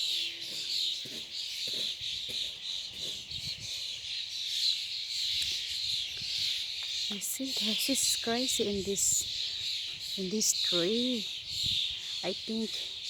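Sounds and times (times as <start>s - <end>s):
flock of small birds chirping: 0.0s - 13.0s.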